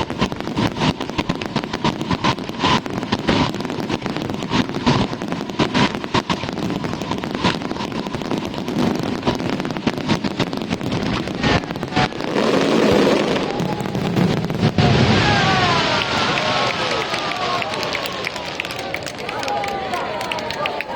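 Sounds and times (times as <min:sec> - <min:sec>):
fireworks crackling bangs: 0:00.0 - 0:20.9.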